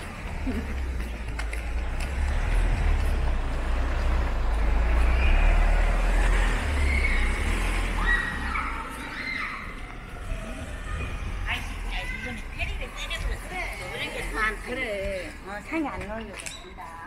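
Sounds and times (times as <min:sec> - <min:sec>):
vehicle engine rumble passing: 0:00.0 - 0:15.6
tyre and road noise: 0:00.0 - 0:17.0.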